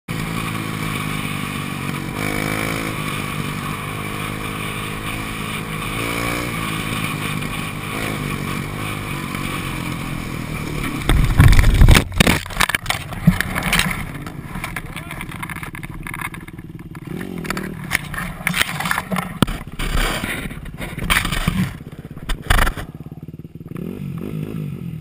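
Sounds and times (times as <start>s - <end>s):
dirt bike engine revving: 0.1s - 25.0s.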